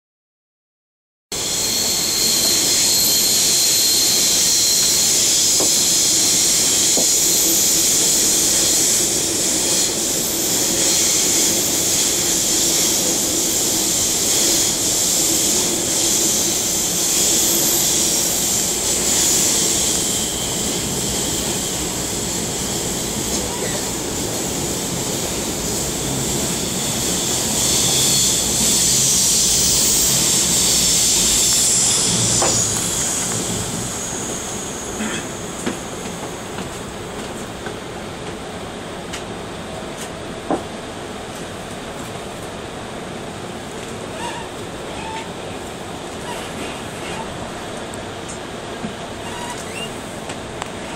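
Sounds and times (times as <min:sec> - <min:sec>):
train running: 0:01.3 - 0:50.9.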